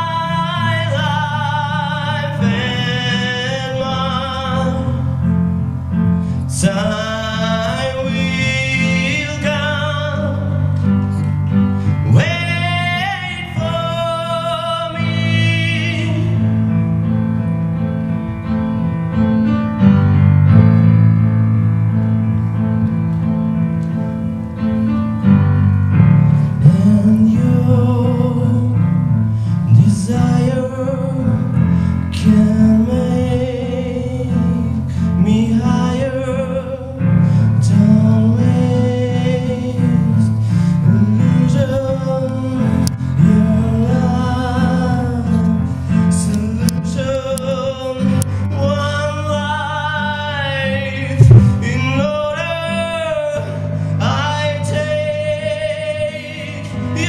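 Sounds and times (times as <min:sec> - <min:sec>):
man singing: 0:00.0 - 0:17.2, 0:26.4 - 0:57.0
grand piano chords: 0:00.0 - 0:57.0.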